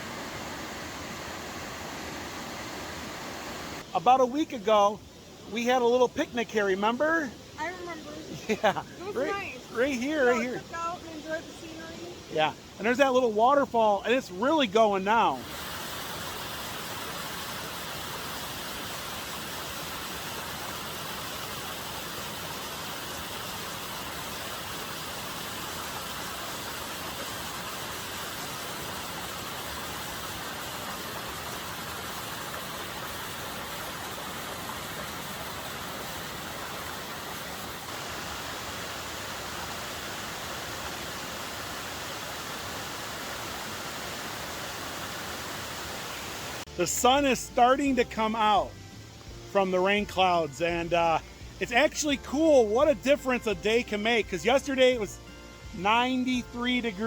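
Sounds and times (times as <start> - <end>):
mountain stream rushing: 0.0 - 52.8.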